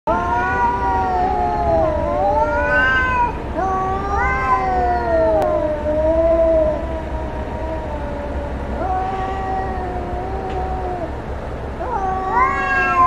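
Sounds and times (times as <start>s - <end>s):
cats yowling: 0.1s - 13.0s.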